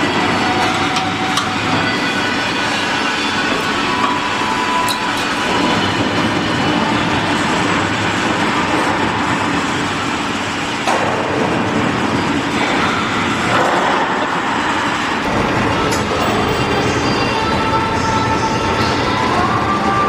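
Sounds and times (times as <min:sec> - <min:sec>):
factory machinery rumble and hiss: 0:00.0 - 0:20.0.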